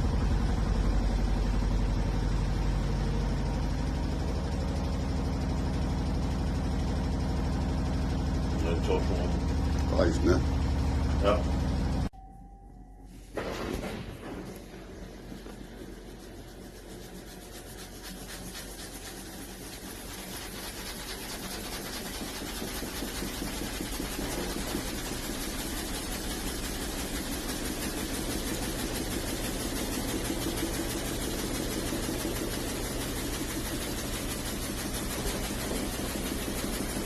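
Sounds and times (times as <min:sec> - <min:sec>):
washing machine drum spinning: 0:00.0 - 0:12.1, 0:13.3 - 0:37.0.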